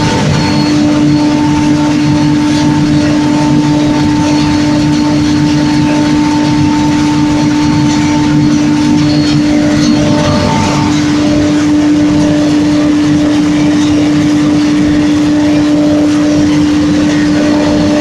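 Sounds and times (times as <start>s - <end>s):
asphalt plant mechanical drone: 0.0s - 18.0s.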